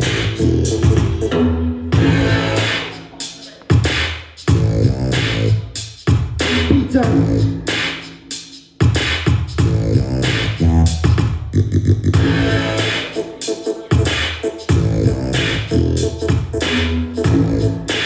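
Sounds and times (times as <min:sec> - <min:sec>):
electronic music with heavy bass: 0:00.0 - 0:05.8, 0:06.4 - 0:18.0.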